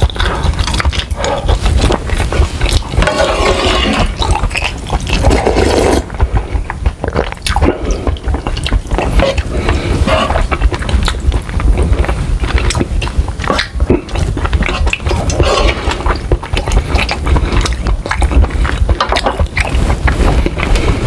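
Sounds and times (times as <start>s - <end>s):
low rumble: 0.0s - 21.0s
wet chewing noodles: 0.0s - 21.0s.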